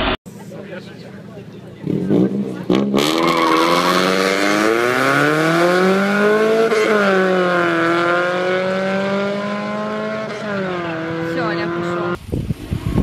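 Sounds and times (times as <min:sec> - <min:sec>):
truck engine revving: 0:00.0 - 0:12.2.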